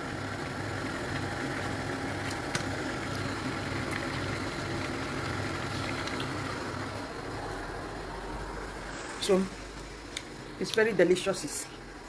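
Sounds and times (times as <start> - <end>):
gas stove burner rumble: 0.0 - 11.4
soup simmering: 0.1 - 10.4.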